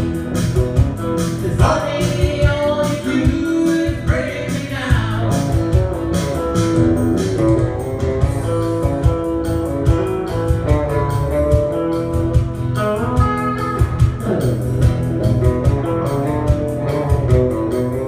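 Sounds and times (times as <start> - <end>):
live band playing instrumental: 0.0 - 18.0.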